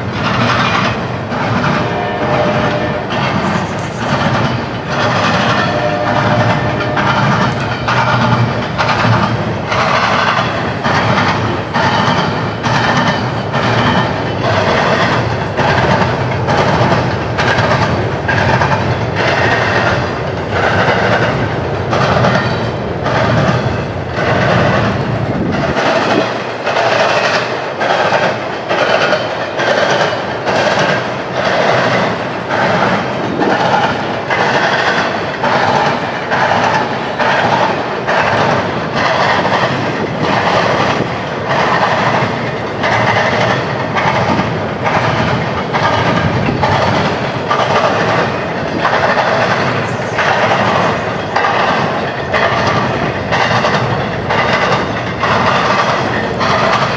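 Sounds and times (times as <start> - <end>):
low train rumble: 0.0 - 56.9
train wheels clacking on track: 0.0 - 56.9.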